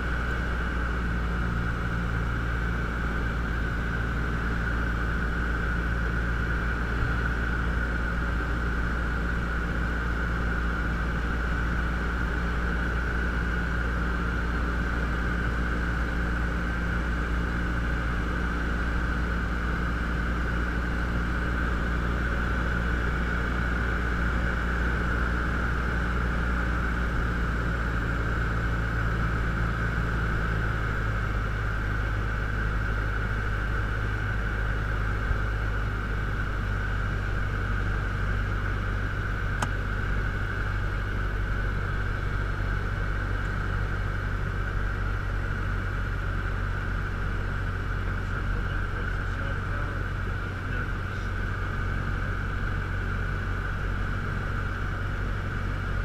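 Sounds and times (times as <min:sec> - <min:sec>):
aircraft engine and propeller droning: 0:00.0 - 0:56.0.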